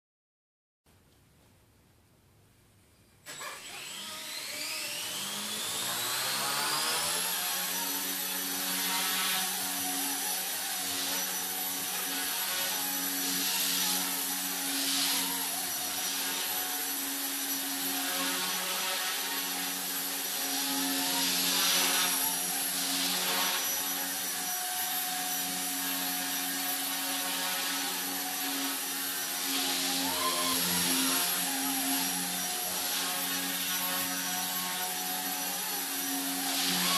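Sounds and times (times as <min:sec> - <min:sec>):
rc helicopter rotor whine: 0:03.3 - 0:36.9.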